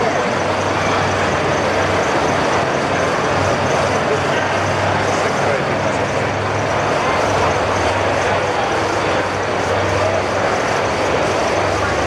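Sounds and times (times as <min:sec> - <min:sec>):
crowd chattering: 0:00.0 - 0:12.0.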